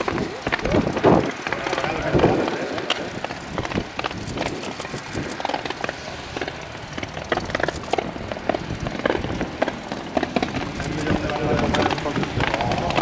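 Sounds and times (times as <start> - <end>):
low background rumble: 0.0 - 13.0
pyrotechnics crackling and popping: 0.0 - 13.0.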